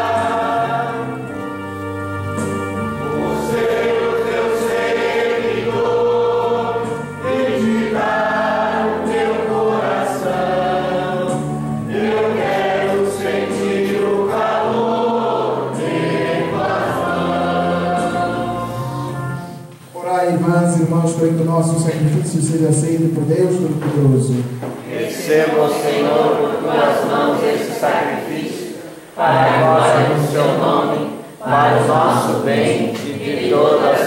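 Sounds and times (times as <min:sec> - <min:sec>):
congregation and choir singing a hymn: 0:00.0 - 0:34.0.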